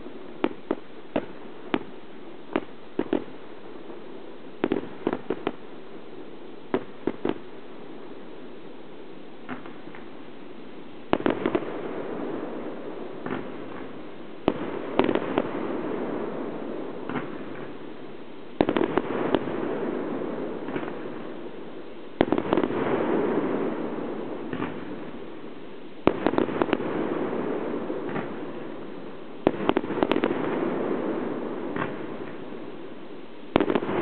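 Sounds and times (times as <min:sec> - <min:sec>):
fireworks bangs: 0:00.0 - 0:08.2, 0:09.4 - 0:10.3, 0:11.1 - 0:34.0.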